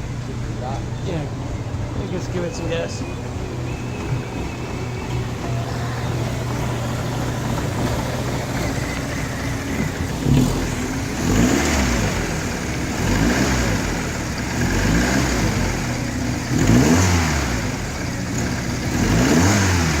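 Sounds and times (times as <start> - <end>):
car engine idling: 0.0 - 20.0
car engine revving: 0.0 - 20.0.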